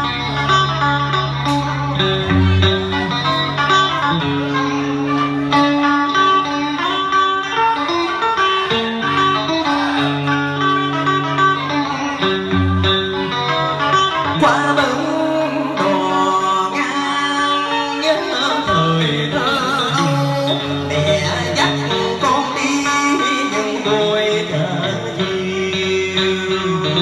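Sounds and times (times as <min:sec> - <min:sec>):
person singing: 0:00.0 - 0:27.0
plucked-string melody: 0:00.0 - 0:27.0
sustained bass notes: 0:00.0 - 0:27.0.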